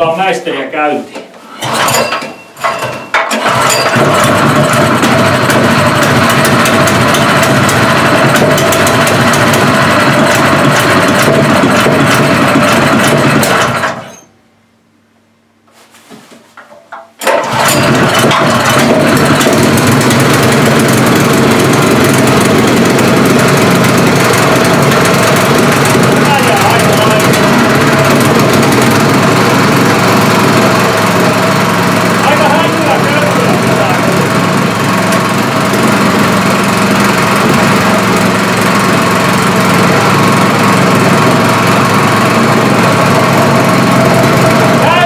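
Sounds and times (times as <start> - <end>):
small petrol engine running: 1.6 - 14.3, 17.2 - 45.0.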